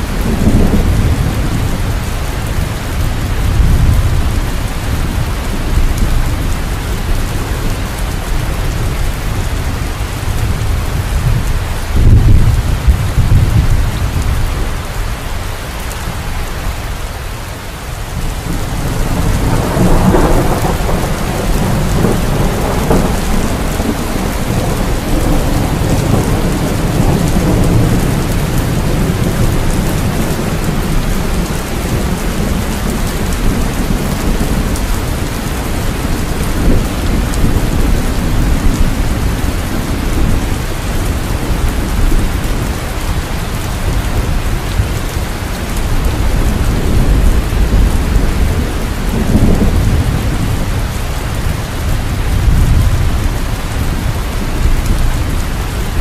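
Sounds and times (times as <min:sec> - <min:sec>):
thunder rumbling: 0:00.0 - 0:17.0, 0:18.0 - 0:56.0
steady rain: 0:00.0 - 0:56.0.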